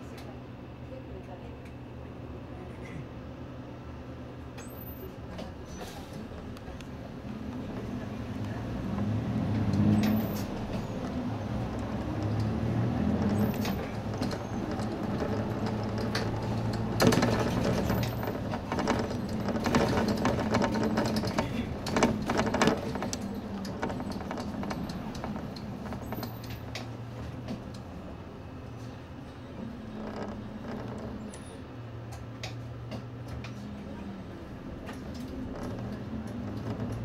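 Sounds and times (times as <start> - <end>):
bus clattering and rattling: 0.0 - 37.0
bus engine drone: 0.0 - 37.0.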